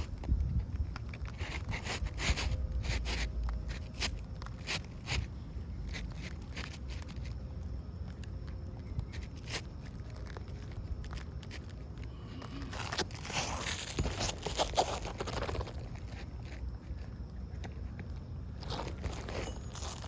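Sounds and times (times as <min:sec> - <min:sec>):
shingle scraping and clicking: 0:00.0 - 0:07.4, 0:08.2 - 0:20.0.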